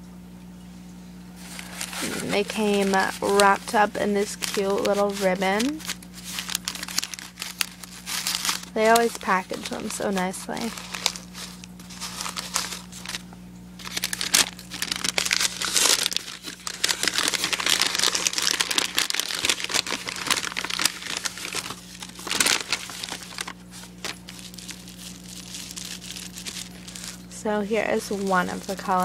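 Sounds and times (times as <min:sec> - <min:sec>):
paper rustling and crinkling: 0:01.4 - 0:29.0.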